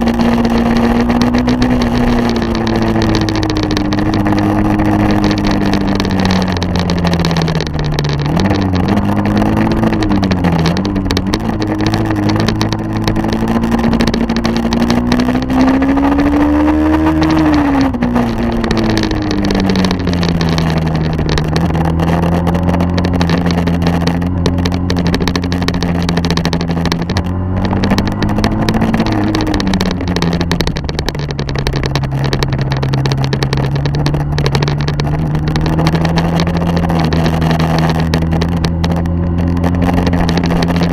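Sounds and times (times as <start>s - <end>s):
vehicle engine running: 0.0s - 40.9s
wind noise: 0.0s - 40.9s.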